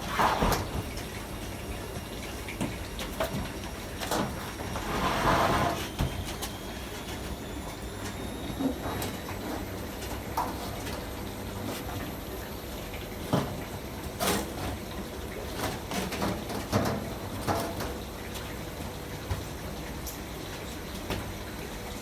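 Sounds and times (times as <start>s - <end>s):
water swishing in washing machine: 0.0s - 22.0s.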